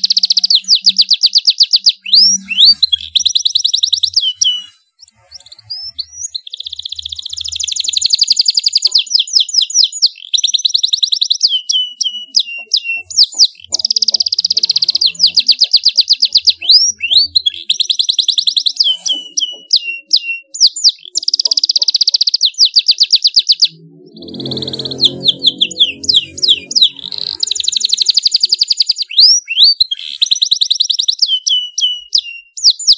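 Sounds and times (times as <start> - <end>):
canary singing: 0.0 - 32.9.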